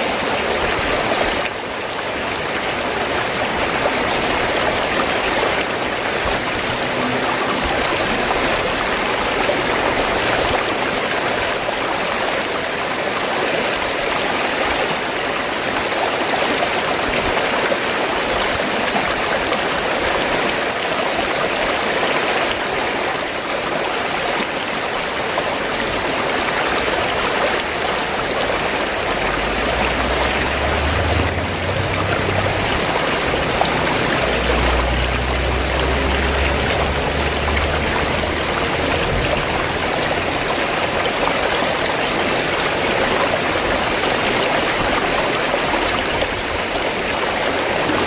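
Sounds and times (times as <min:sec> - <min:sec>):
stream water rushing and gurgling: 0:00.0 - 0:48.0.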